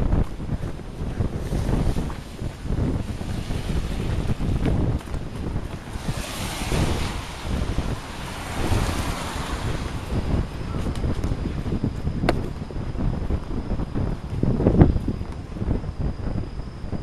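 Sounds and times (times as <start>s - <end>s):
gust rushing hiss: 0.0s - 17.0s
wind buffeting microphone: 0.0s - 17.0s.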